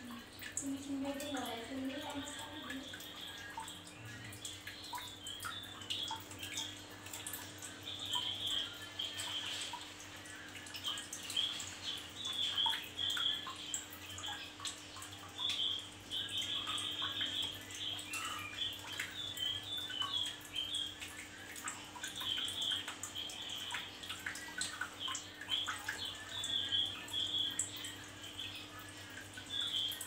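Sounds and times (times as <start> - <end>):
bird chirping and twittering: 0.0 - 30.0.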